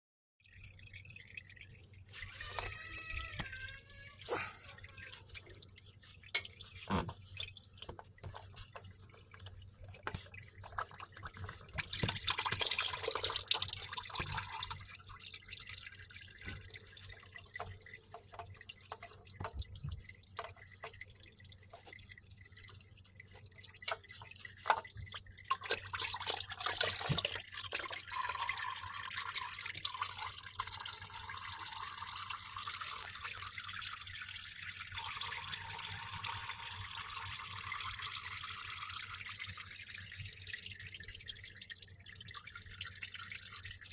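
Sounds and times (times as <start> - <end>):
motor oil pouring: 0.4 - 43.9.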